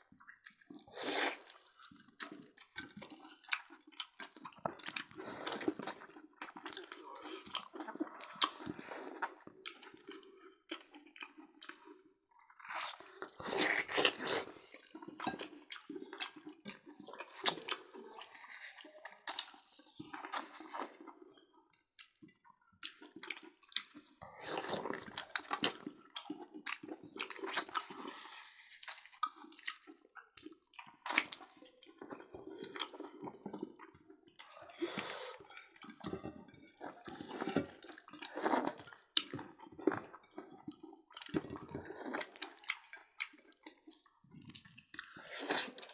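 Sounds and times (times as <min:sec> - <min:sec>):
wet chewing and lip-smacking: 0:00.1 - 0:36.2, 0:36.8 - 0:45.9.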